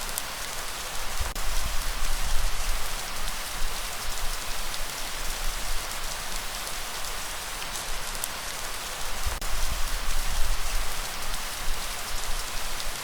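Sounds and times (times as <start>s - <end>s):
light rain falling: 0.0s - 13.0s
raindrops ticking on a surface: 0.0s - 13.0s.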